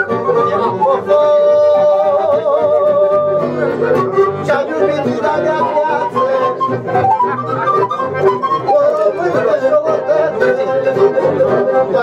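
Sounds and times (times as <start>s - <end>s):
man singing: 0.0s - 7.2s, 8.4s - 12.0s
accordion: 0.0s - 12.0s
guitar: 0.0s - 12.0s.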